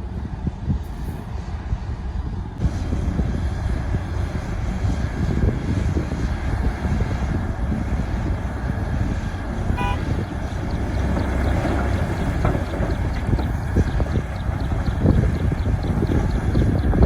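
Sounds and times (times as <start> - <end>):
diesel machinery rumbling: 0.0 - 17.0.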